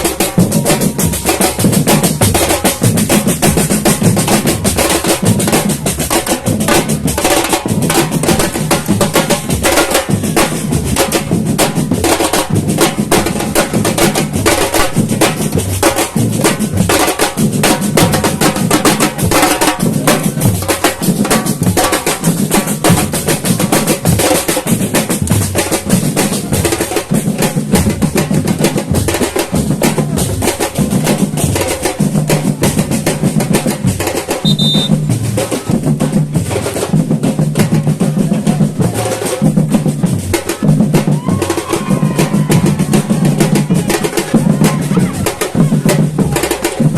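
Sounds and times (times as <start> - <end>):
drum ensemble playing: 0.0 - 46.9
rapid snare and hand percussion: 0.0 - 46.9.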